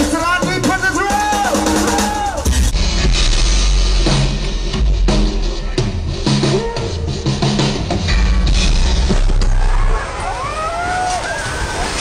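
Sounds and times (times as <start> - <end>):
drum kit beating: 0.0 - 9.7.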